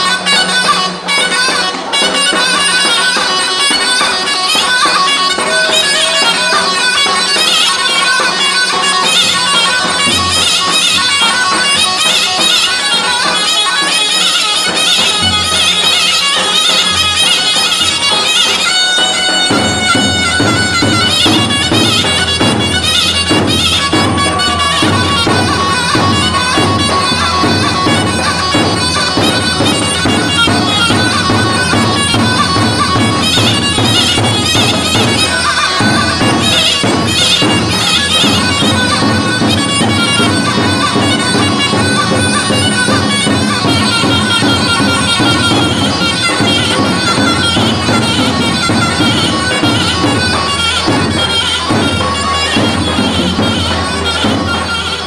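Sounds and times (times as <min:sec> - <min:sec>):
shrill reedy wind instrument melody: 0:00.0 - 0:55.0.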